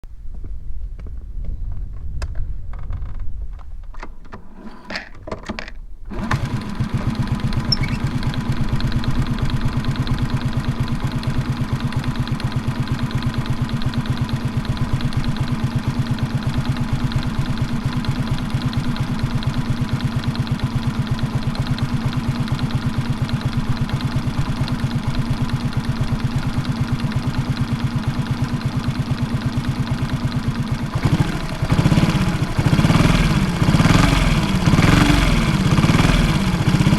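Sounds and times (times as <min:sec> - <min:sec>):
motorcycle engine idling: 0:06.1 - 0:36.9.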